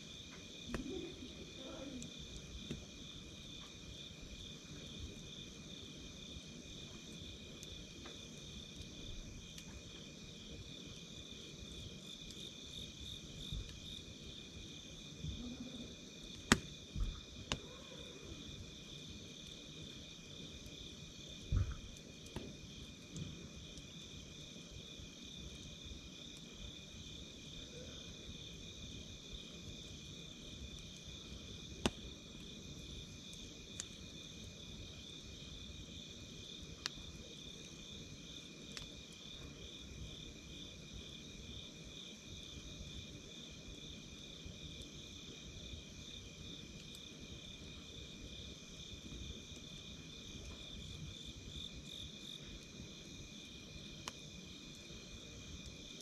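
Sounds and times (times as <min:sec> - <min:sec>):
burning wood crackles: 0:00.0 - 0:27.6, 0:28.2 - 0:56.0
campfire burning: 0:00.0 - 0:56.0.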